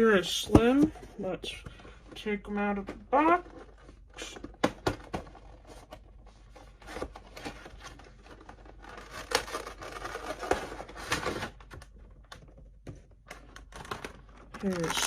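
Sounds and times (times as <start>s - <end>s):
cardboard and plastic packaging rustling: 0.0s - 15.0s.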